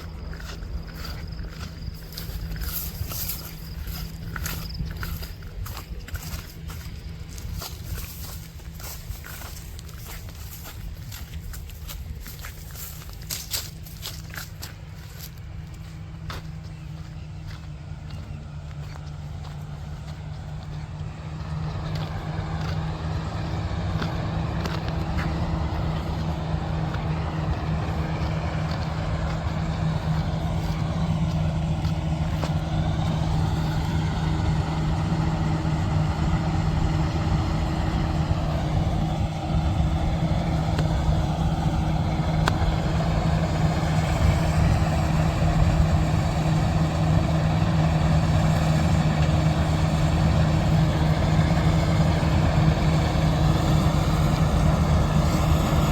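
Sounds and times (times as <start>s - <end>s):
combine harvester diesel engine: 0.0s - 55.9s.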